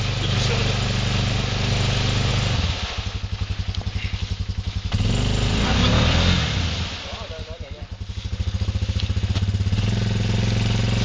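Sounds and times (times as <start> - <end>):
quad engine revving and idling: 0.0 - 11.0.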